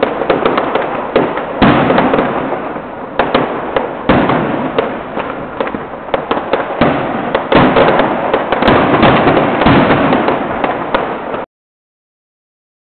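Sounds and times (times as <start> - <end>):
fireworks crackling pops: 0.0 - 11.5.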